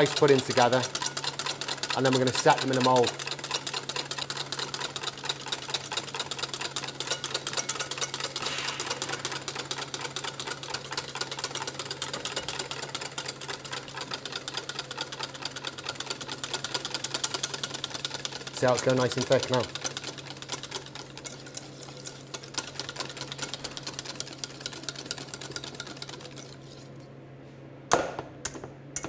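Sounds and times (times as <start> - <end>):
whisk rattling in metal bowl: 0.0 - 27.0.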